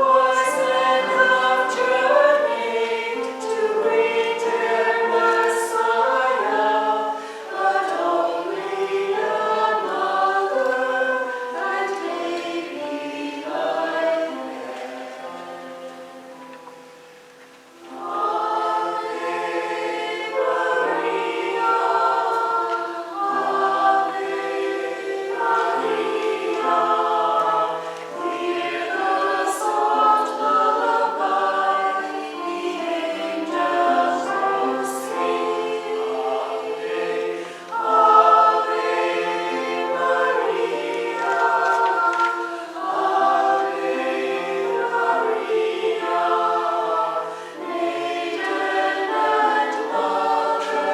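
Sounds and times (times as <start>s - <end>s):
church choir singing: 0.0s - 50.9s.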